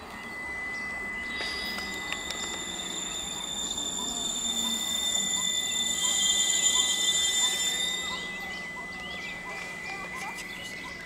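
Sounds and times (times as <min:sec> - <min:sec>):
electric train whine: 0:00.0 - 0:11.0
train hissing rush: 0:00.5 - 0:10.1.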